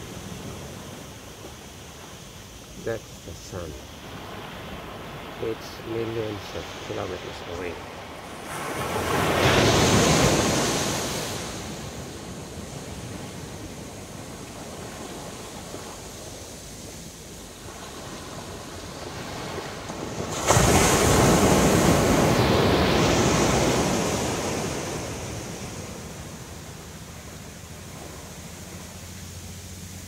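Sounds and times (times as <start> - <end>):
ocean waves washing on beach: 0.0 - 30.0.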